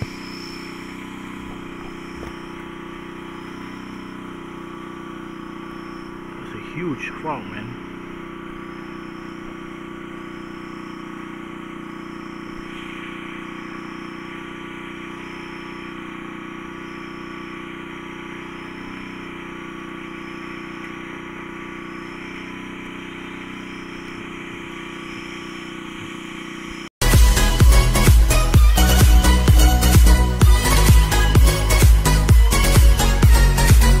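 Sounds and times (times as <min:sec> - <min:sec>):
steady engine-like drone: 0:00.0 - 0:34.0.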